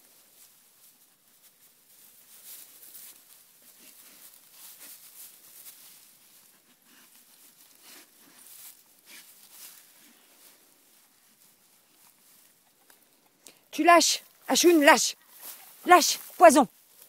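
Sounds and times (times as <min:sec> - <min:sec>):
dogs rustling in dry grass: 0:00.0 - 0:17.0.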